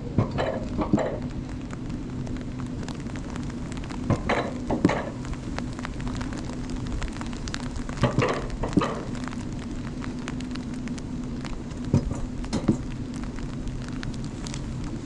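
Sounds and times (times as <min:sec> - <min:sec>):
sled rolling on steel track: 0:00.0 - 0:15.0.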